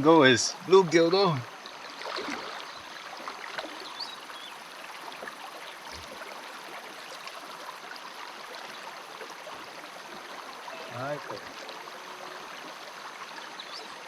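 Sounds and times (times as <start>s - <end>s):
running water rushing: 0.0s - 14.0s
small ticks and splashes: 0.7s - 14.0s.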